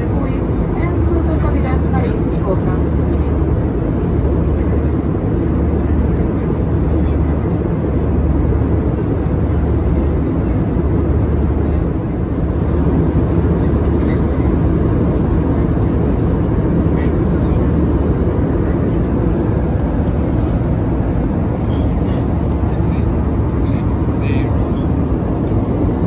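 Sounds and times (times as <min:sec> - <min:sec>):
aircraft cabin airflow drone: 0:00.0 - 0:26.0.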